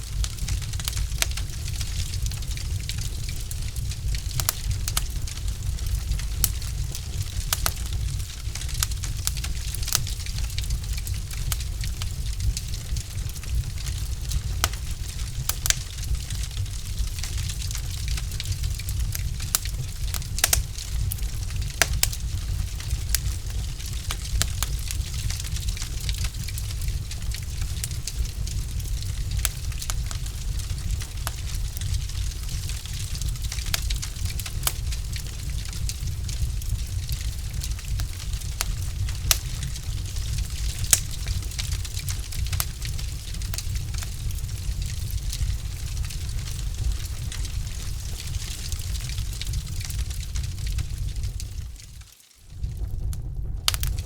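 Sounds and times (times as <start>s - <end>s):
fire rumble and hiss: 0.0s - 54.0s
logs crackling and popping in fire: 0.0s - 54.0s.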